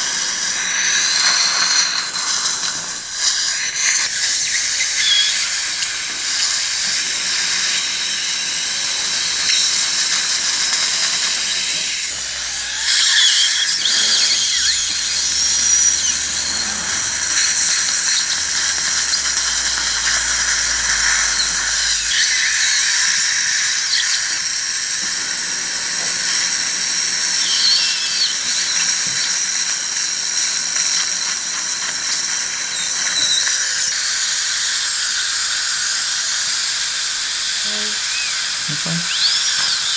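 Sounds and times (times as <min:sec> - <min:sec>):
suction tip hissing: 0:00.0 - 0:25.1, 0:27.2 - 0:29.7, 0:32.1 - 0:39.9
dental handpiece drilling whine: 0:00.0 - 0:39.9.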